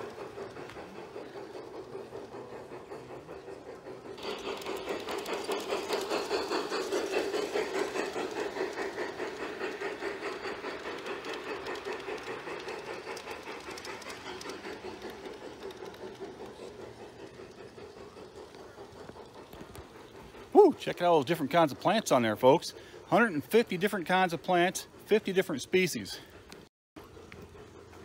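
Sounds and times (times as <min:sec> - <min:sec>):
model train clattering on track: 0:00.0 - 0:28.0.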